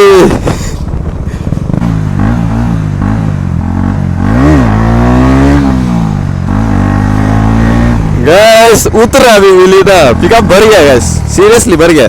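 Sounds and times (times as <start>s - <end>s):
loud motorcycle engine revving: 0.0s - 12.0s.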